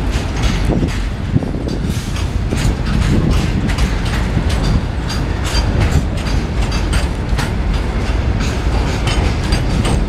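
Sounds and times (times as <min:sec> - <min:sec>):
metallic wheel clanks: 0:00.0 - 0:10.0
train rumble: 0:00.0 - 0:10.0.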